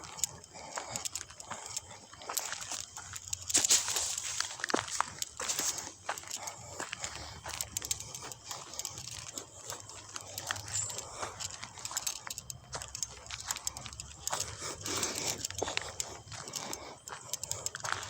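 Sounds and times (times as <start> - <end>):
footsteps crunching dry leaves: 2.3 - 18.0.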